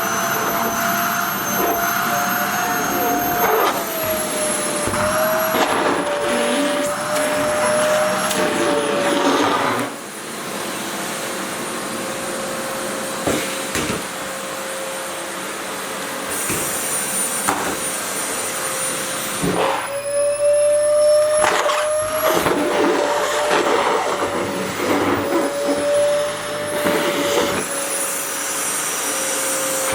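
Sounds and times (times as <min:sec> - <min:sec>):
vacuum cleaner whining: 0:00.0 - 0:29.9.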